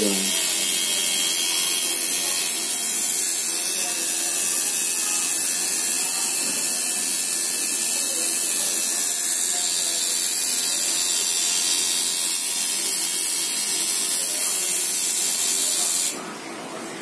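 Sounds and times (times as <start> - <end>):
tattoo machine whirring: 0.0 - 16.2.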